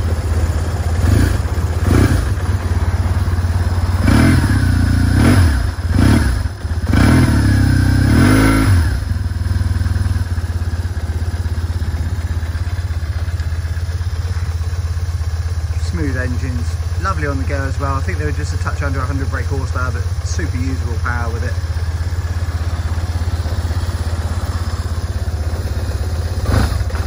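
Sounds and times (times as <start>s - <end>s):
motorcycle engine revving and idling: 0.0s - 27.0s.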